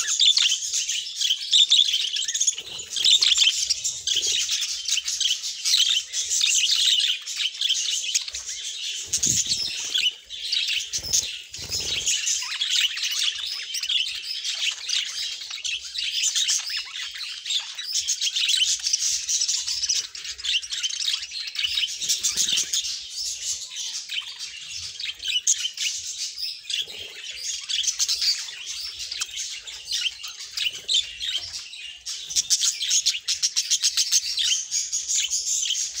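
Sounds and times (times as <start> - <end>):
flock of budgerigars chattering: 0.0 - 36.0.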